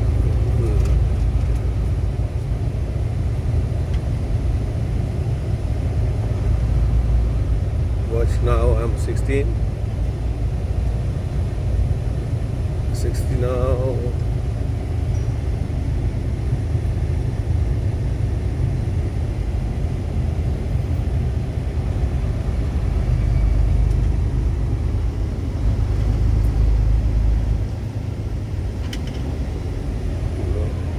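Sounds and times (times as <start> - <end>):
truck engine and road rumble: 0.0 - 30.9.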